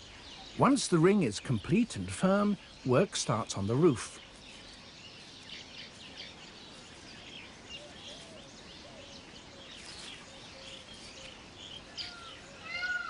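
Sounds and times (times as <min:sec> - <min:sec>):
weaver birds chattering: 0:00.0 - 0:13.0.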